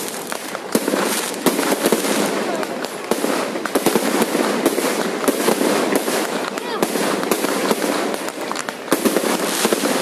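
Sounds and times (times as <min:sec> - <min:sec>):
crackling hiss: 0:00.0 - 0:10.0
fireworks bangs: 0:00.0 - 0:10.0.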